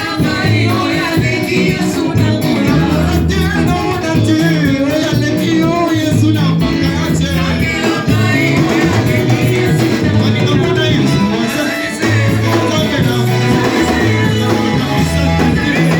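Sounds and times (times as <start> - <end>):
worship singing over a band: 0.0 - 15.9.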